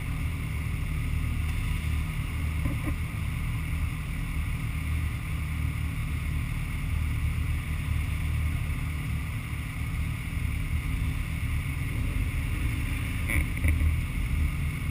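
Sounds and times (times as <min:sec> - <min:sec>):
motorcycle engines idling: 0:00.0 - 0:14.9.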